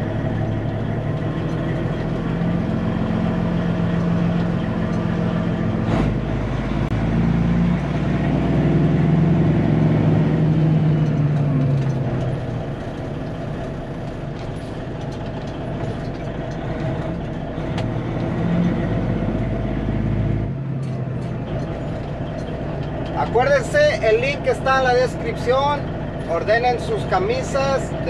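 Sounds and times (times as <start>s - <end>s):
truck diesel engine driving: 0.0s - 28.0s.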